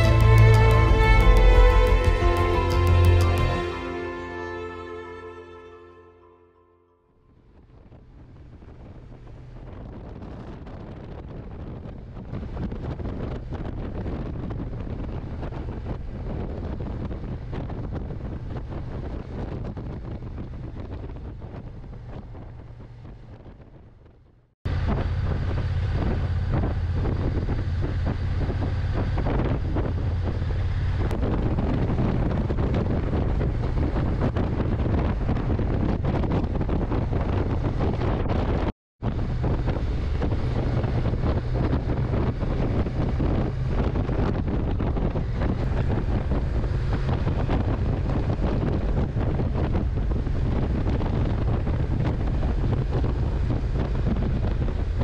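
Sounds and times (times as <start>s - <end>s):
wind rushing over microphone: 0.0s - 5.8s, 7.4s - 55.0s
motorcycle engine drone: 0.0s - 6.7s, 7.3s - 55.0s.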